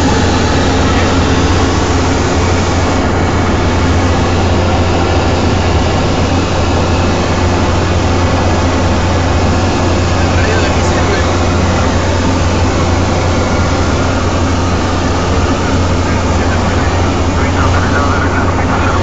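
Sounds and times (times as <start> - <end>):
low hum: 0.0 - 19.0
turboprop engine and propeller running: 0.0 - 19.0.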